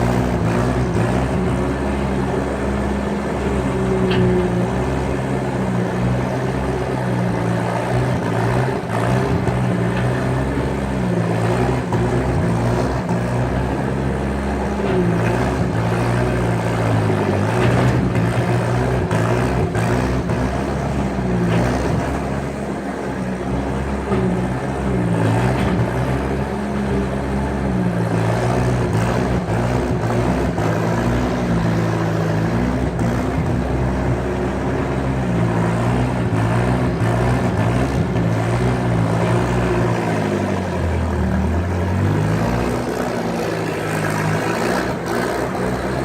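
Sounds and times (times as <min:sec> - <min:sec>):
skid steer engine revving: 0:00.0 - 0:46.0.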